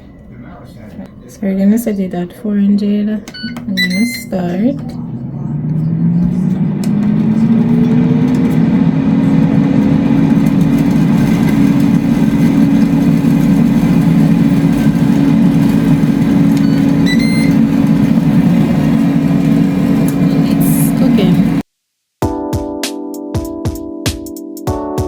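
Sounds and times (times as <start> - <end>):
air fryer fan hum: 1.5 - 21.6.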